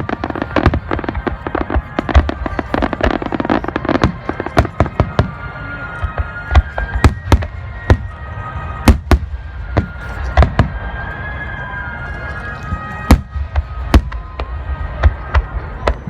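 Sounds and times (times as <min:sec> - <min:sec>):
fireworks bursting with sharp bangs: 0:00.0 - 0:11.1, 0:12.0 - 0:16.0.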